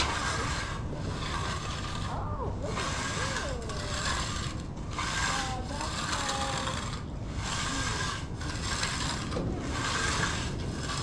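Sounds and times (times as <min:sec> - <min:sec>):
tool scraping fresh concrete: 0:00.0 - 0:11.0.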